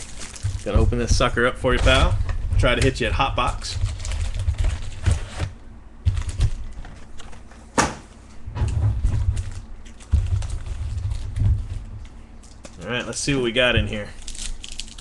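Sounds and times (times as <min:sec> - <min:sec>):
cardboard and wrapping rustling: 0:00.0 - 0:07.6, 0:08.8 - 0:15.0.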